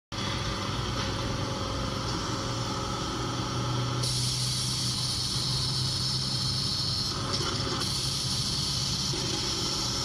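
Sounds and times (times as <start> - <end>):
machines humming: 0.2 - 10.0.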